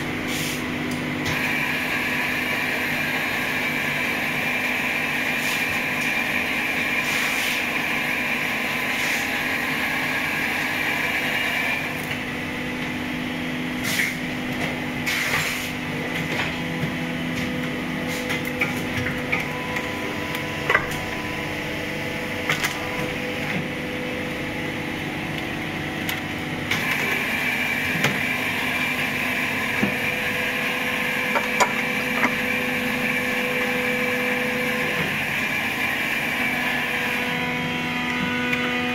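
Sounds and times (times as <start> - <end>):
machine whine and hum: 0.0 - 38.9.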